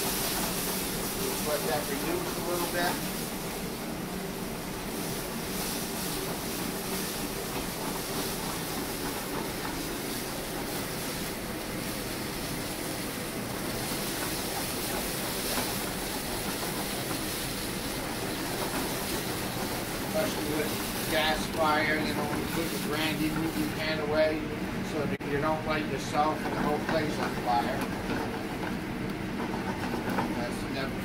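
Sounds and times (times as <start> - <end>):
sauce sizzling: 0.0 - 30.2
flambeing pan hissing rush: 0.0 - 31.0.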